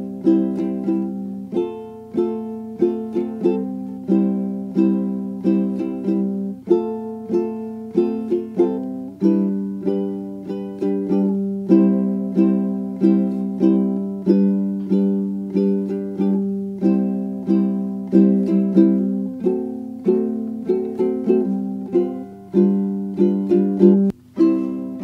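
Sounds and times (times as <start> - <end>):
plucked string chords: 0.0 - 25.0.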